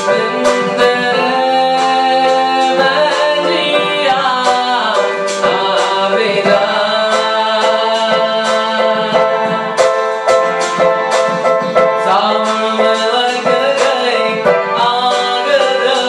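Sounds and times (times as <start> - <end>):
electronic keyboard chords: 0.0 - 16.0
man singing: 0.0 - 16.0
steady clicking beat: 0.0 - 16.0.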